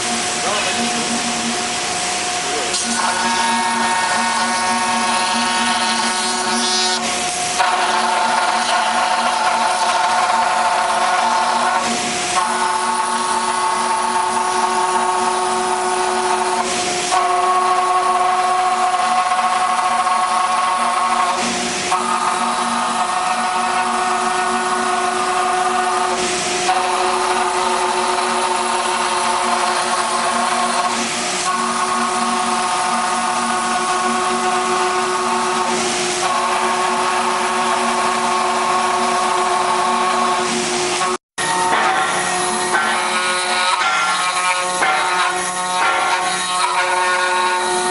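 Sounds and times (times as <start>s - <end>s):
wood router machine whine: 0.0s - 47.9s.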